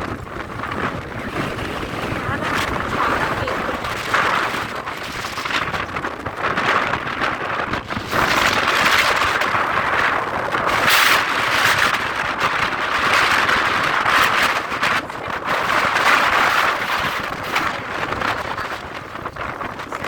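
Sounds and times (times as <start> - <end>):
strong gusty wind: 0.0 - 20.0.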